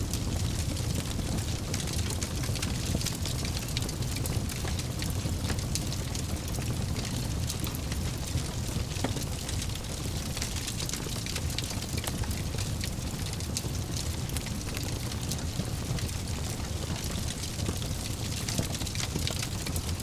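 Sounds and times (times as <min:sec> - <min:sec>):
low rumble of burning: 0:00.0 - 0:20.0
wood fire crackling and popping: 0:00.0 - 0:20.0.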